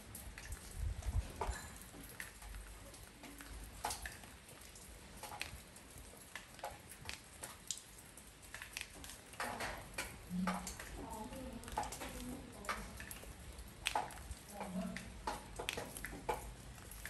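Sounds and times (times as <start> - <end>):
raindrops striking a porch: 0.0 - 17.0
steady hiss of rain: 0.0 - 17.0.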